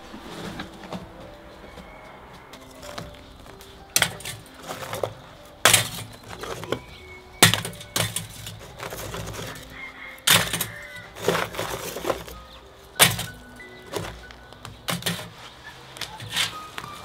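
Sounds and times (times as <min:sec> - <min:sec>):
charcoal clunking into metal: 0:00.0 - 0:17.0.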